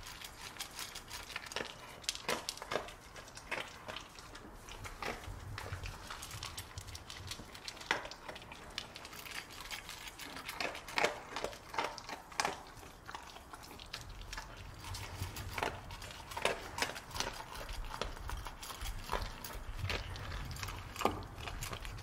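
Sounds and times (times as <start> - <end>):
dog crunching dry kibble: 0.0 - 22.0.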